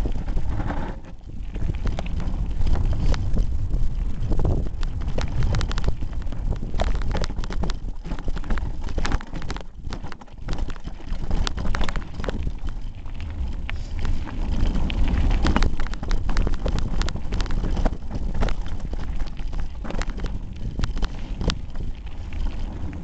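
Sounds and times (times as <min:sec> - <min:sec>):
bike knocking and rattling: 0:00.0 - 0:23.0
wind rumble on microphone: 0:00.0 - 0:23.0.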